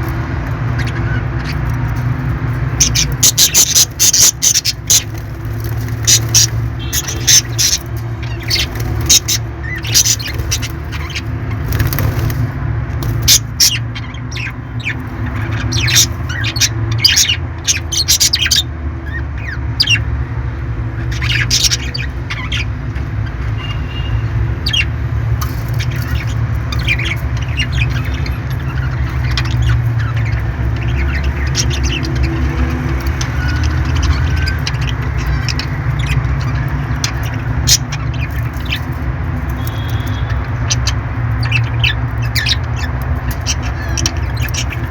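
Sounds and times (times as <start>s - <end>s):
parrots squawking and chirping: 0.0s - 44.9s.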